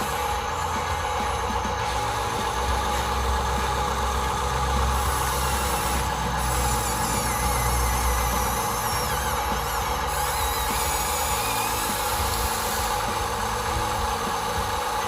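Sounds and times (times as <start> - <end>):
toy vehicle engine idling hum: 0.0 - 15.0.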